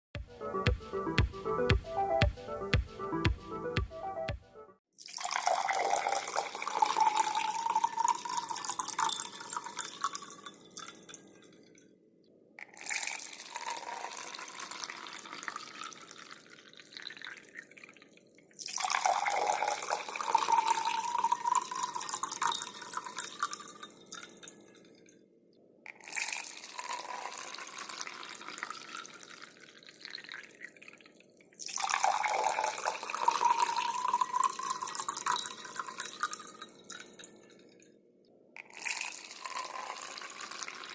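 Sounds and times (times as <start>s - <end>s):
water pouring into a glass: 4.9s - 11.8s, 12.6s - 25.2s, 25.9s - 37.8s, 38.6s - 40.9s.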